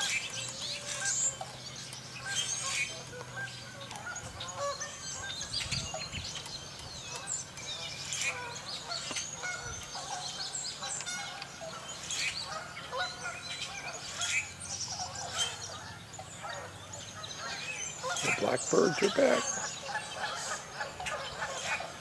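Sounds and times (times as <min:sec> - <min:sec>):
swans and geese honking: 0:00.0 - 0:06.2, 0:07.0 - 0:22.0
chorus of birds calling: 0:00.0 - 0:22.0.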